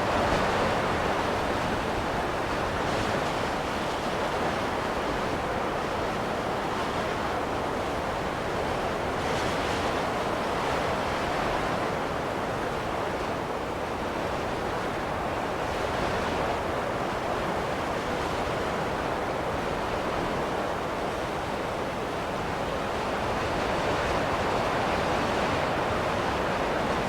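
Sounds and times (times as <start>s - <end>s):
rushing wind: 0.0s - 27.0s.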